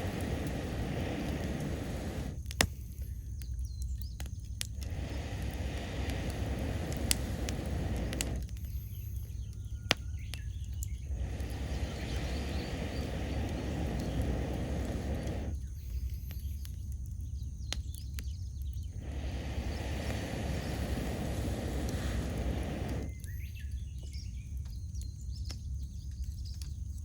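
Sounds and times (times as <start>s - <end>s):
faint bird calls: 0.0s - 26.7s
campfire crackling and popping: 0.0s - 27.0s.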